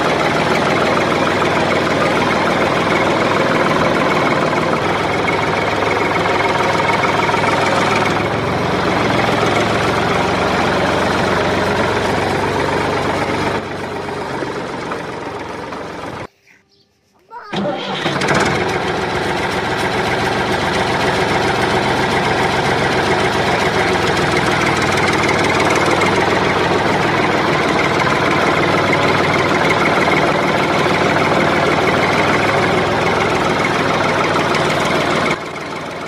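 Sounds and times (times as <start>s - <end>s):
vehicle engine idling: 0.0s - 16.3s, 17.6s - 36.0s.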